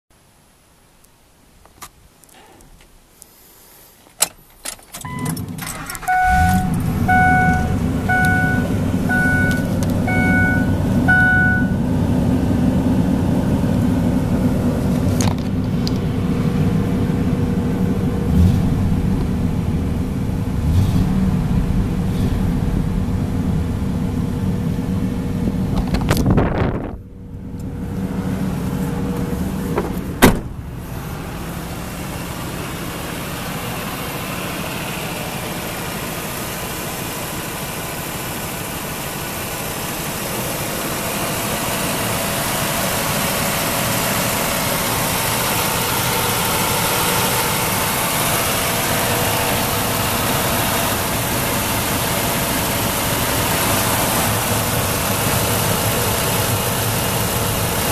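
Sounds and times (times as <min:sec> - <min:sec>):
pickup engine idling: 0:05.1 - 0:57.9.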